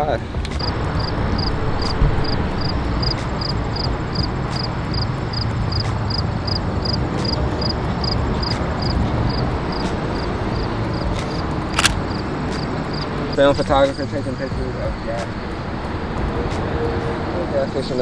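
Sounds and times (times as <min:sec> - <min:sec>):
roadside rumble with hiss: 0:00.0 - 0:18.0.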